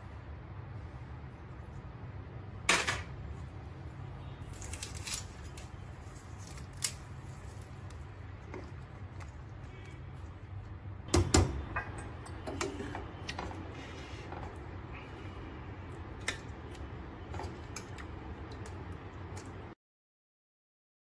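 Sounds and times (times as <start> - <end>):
steady low hum: 0.0 - 19.8.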